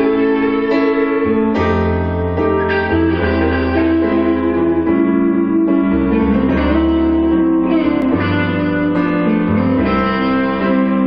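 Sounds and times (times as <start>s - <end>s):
electric guitar: 0.0s - 11.0s
electric keyboard: 0.0s - 11.0s
low sustained bass notes: 0.0s - 11.0s.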